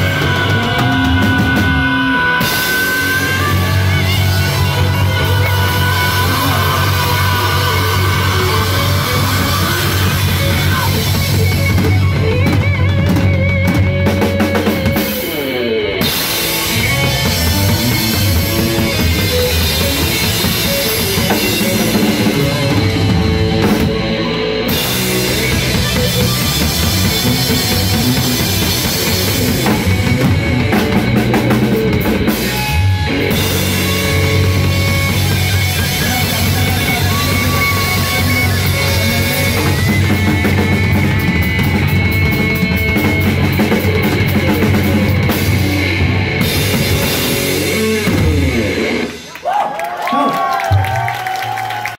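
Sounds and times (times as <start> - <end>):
live rock band: 0.0 - 51.9.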